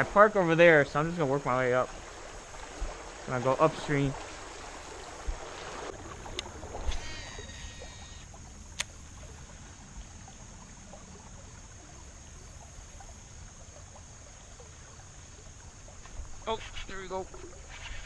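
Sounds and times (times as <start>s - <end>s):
reel whine: 0.0s - 18.0s
river water flowing: 0.0s - 18.0s.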